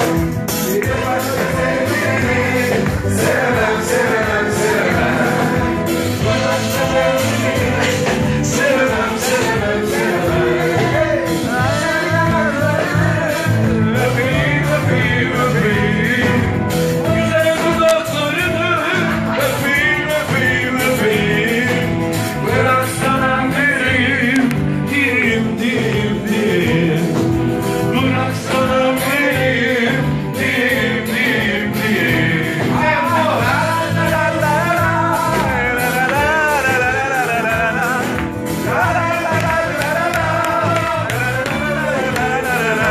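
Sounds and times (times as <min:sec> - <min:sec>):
drum kit steady beat: 0:00.0 - 0:42.9
live pop band playing: 0:00.0 - 0:42.9
person singing: 0:00.0 - 0:42.9.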